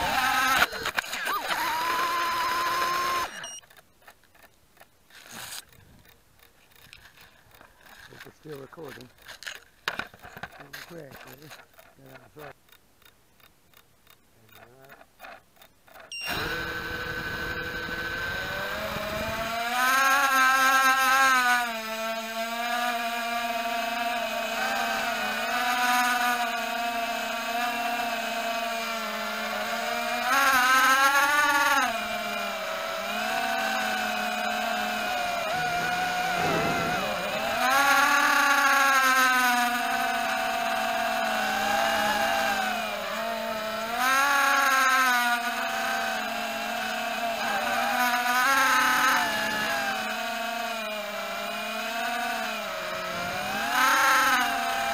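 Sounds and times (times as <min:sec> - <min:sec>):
quadcopter motors whining: 0:00.0 - 0:12.8, 0:13.7 - 0:54.9.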